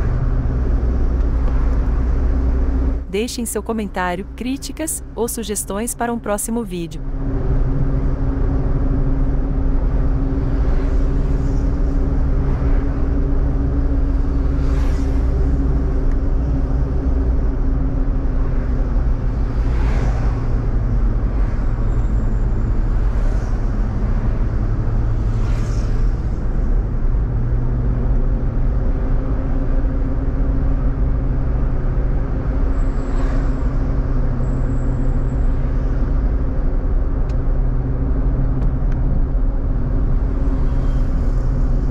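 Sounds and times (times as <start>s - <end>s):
car engine hum and road noise: 0.0s - 41.9s
passing traffic: 0.0s - 41.9s.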